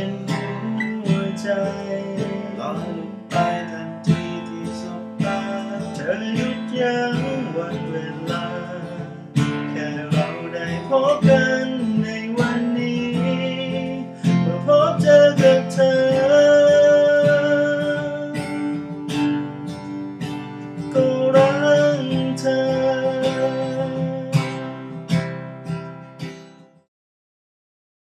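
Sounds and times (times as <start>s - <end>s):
man singing: 0.0s - 25.2s
acoustic guitar strumming: 0.0s - 26.9s.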